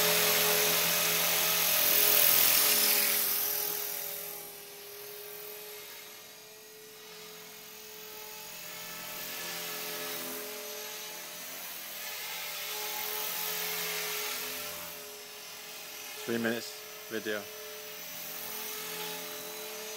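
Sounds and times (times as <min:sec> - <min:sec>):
rc helicopter motor whine: 0:00.0 - 0:19.9
rotor blades buzzing: 0:00.0 - 0:19.9.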